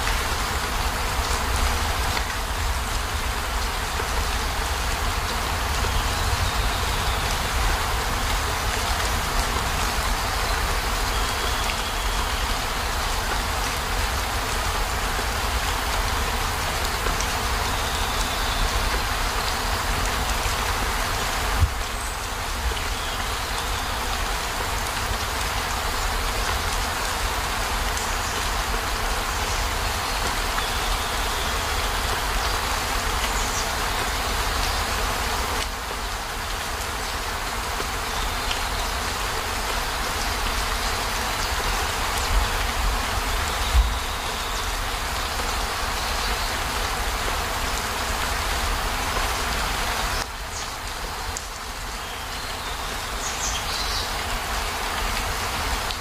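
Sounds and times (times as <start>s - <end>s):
rain on a van roof: 0.0s - 56.0s.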